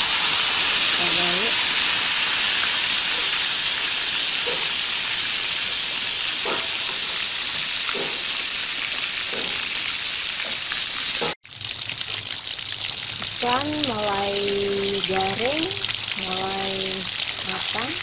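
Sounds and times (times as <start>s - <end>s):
fish deep-frying in hot oil: 0.0s - 18.0s.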